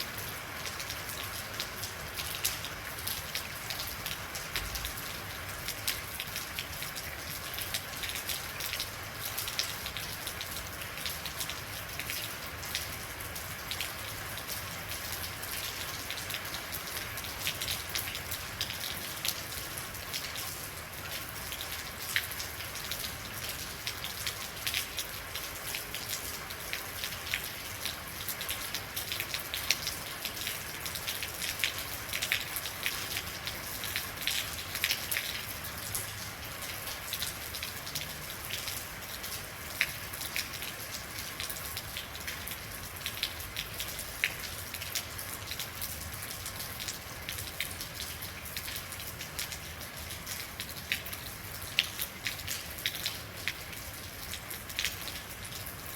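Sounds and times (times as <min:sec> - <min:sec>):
rain falling steadily: 0:00.0 - 0:55.9
raindrops ticking close by: 0:00.0 - 0:55.9.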